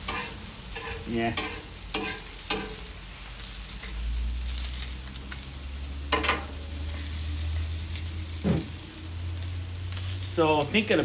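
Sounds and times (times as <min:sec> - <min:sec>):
sausages and onions sizzling: 0:00.0 - 0:11.0.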